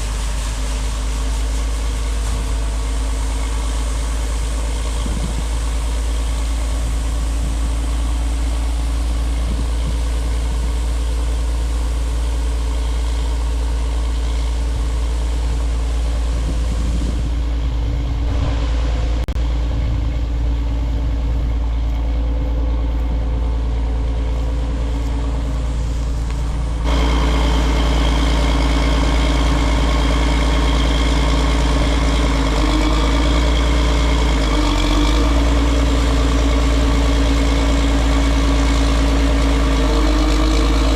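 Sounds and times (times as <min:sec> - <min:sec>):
heavy diesel engine rumbling: 0:00.0 - 0:40.9.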